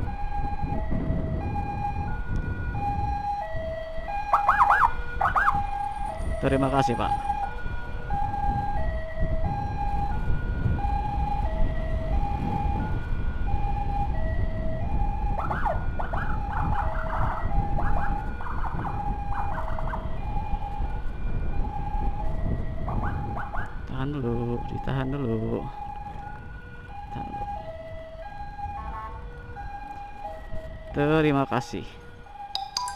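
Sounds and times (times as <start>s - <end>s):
two-tone emergency siren: 0.0s - 32.9s
warbling yelp siren: 0.0s - 32.9s
wind: 0.0s - 32.9s.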